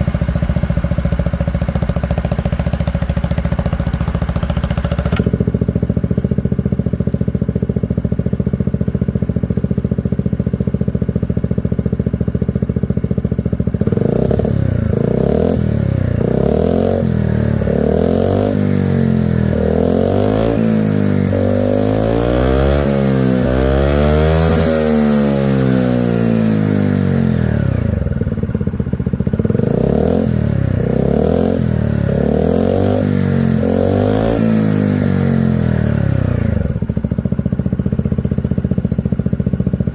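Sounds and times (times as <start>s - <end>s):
scooter engine idling and revving: 0.0s - 39.9s.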